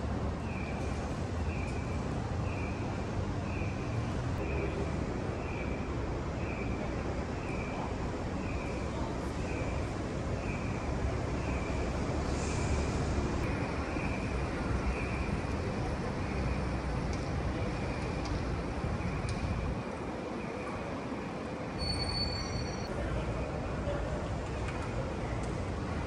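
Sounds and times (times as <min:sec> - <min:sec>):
constant traffic hiss: 0:00.0 - 0:26.0
low rumble of buses and vehicles: 0:00.0 - 0:26.0.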